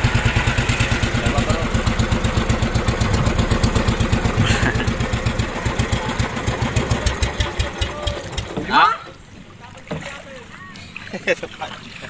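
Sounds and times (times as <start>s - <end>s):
small boat engine puttering: 0.0s - 12.0s.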